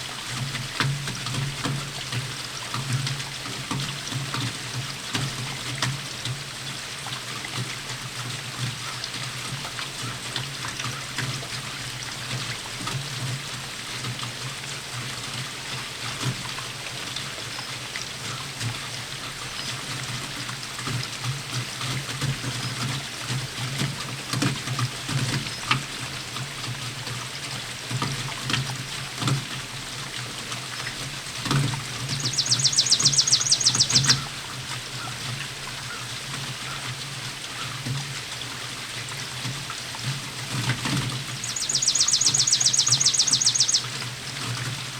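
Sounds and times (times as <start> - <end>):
steady rainfall: 0.0 - 44.9
trickling runoff: 0.0 - 44.9
water dripping: 0.0 - 44.9.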